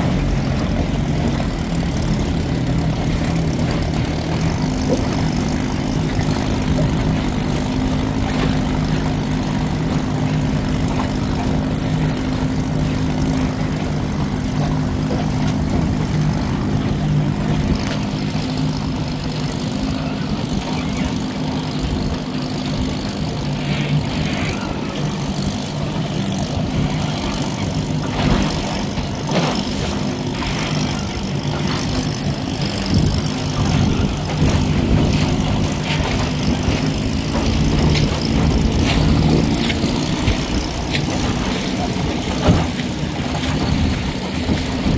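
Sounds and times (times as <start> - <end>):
outboard motor running: 0.0 - 44.9
rushing water: 0.0 - 44.9.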